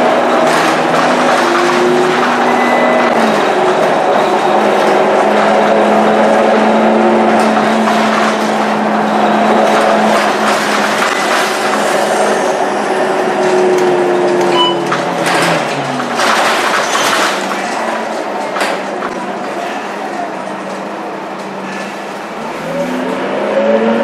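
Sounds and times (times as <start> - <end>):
knocks and rattles: 0.0 - 21.5
bus engine humming and whining: 0.0 - 24.0.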